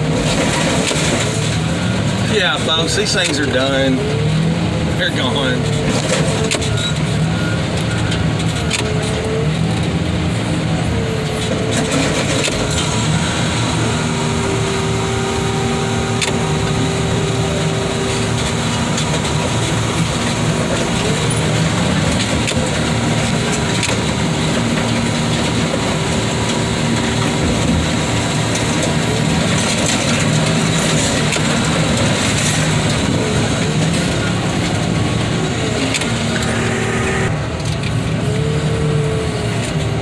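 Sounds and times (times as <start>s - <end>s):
heavy machinery engine running: 0.0s - 40.0s
hydraulic whine: 0.0s - 40.0s.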